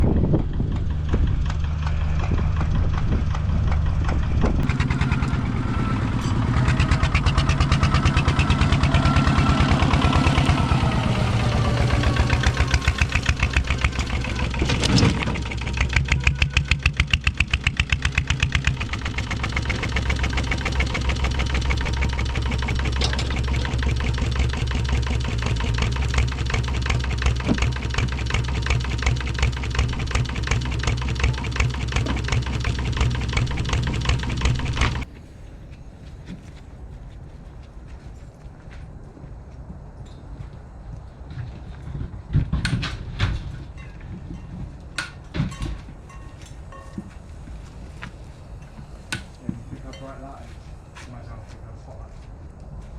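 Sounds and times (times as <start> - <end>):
engine running: 0.0 - 36.5, 39.8 - 52.9.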